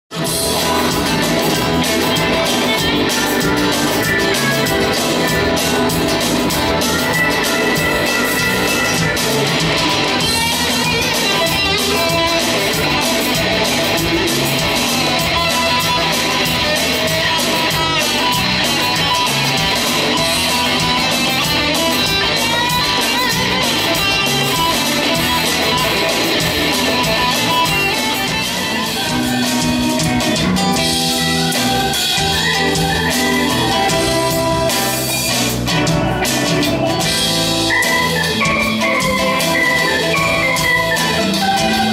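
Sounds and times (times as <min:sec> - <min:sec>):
drum kit: 0:00.1 - 0:41.9
guitars strumming: 0:00.1 - 0:41.9
live band playing: 0:00.1 - 0:41.9.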